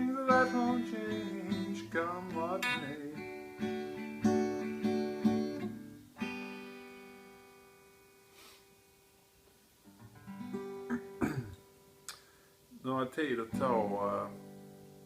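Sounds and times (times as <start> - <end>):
acoustic guitar strumming: 0.0 - 8.9, 9.8 - 12.1, 13.4 - 15.0.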